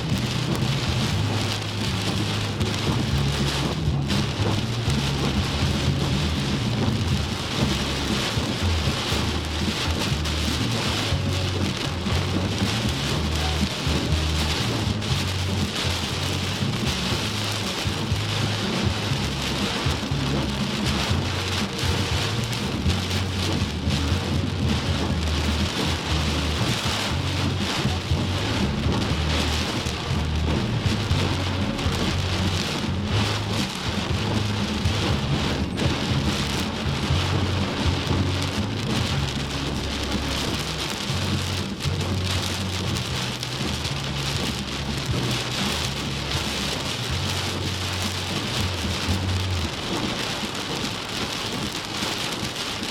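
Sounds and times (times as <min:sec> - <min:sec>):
heavy rain pouring: 0:00.0 - 0:52.9
low uneven rumble: 0:00.0 - 0:52.9.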